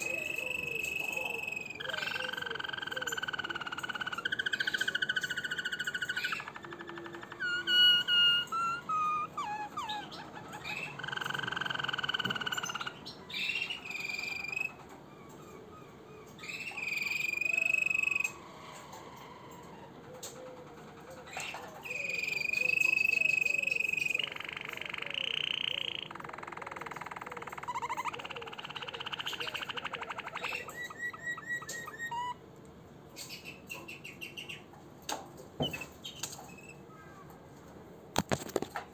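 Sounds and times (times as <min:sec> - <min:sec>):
canary singing trills: 0:00.0 - 0:32.5, 0:33.1 - 0:34.7.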